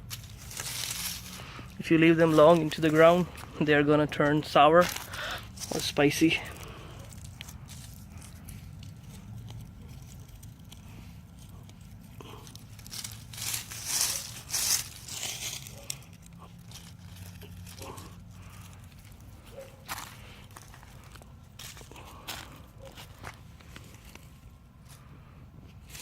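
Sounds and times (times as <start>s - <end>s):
leafy plants rustling and crunching: 0.0s - 25.0s.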